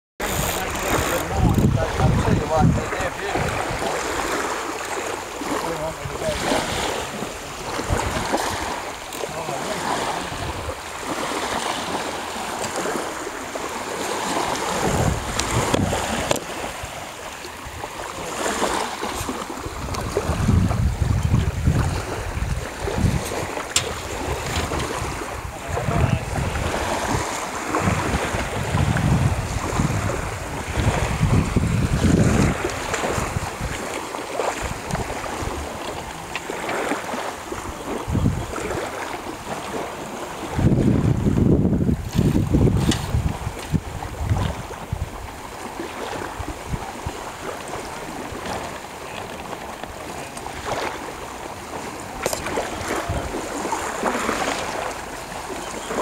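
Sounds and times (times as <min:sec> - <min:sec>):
wind buffeting microphone: 0:00.2 - 0:04.7, 0:05.3 - 0:48.7, 0:49.5 - 0:56.0
small waves lapping: 0:00.2 - 0:56.0.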